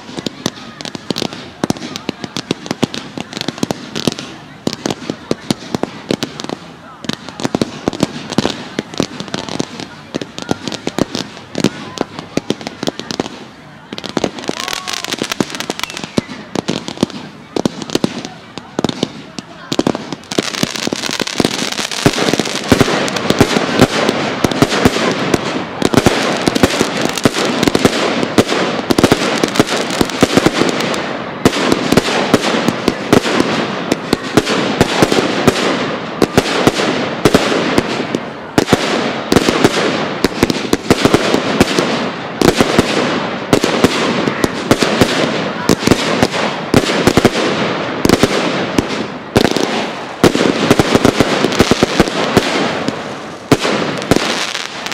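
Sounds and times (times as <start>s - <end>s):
fireworks bangs and crackle: 0.0s - 54.9s.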